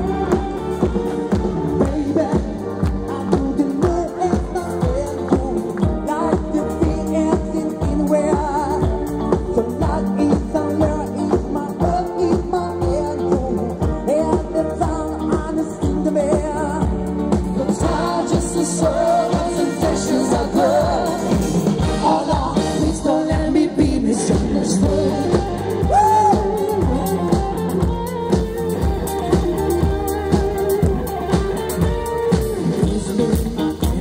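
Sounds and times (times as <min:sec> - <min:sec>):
person singing with vibrato: 0:00.0 - 0:28.9
drum kit beat: 0:00.0 - 0:34.0
electric guitars: 0:00.0 - 0:34.0
keyboard: 0:00.0 - 0:34.0.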